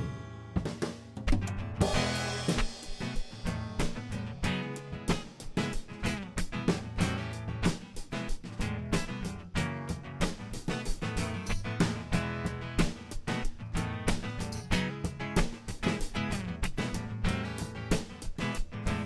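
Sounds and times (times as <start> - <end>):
steady percussion: 0.0 - 19.0
strummed guitar chords: 0.0 - 19.0.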